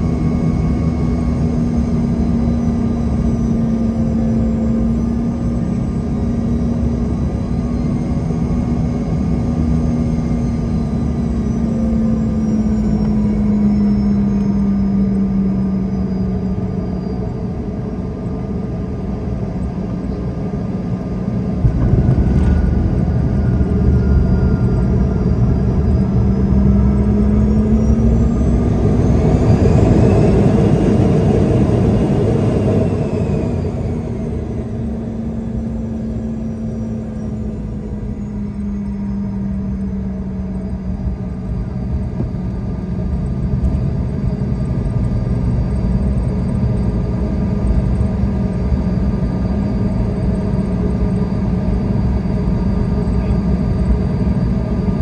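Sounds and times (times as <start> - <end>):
deep rumble of roll-out: 0.0 - 55.0
jet engines humming in cabin: 0.0 - 55.0.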